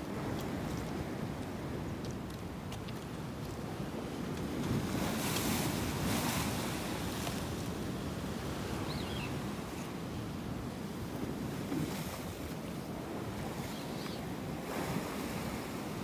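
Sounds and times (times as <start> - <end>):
sea waves washing in: 3.2 - 16.0.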